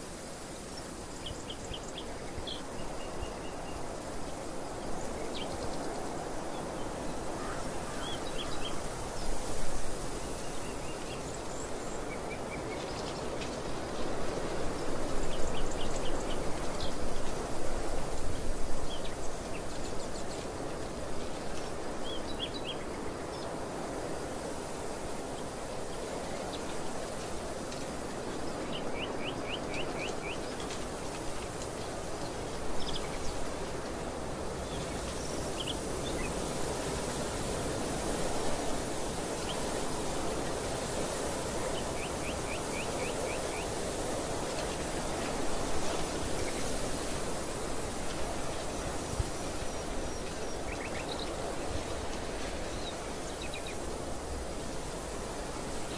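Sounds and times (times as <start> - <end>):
wind blowing: 0.0 - 55.9.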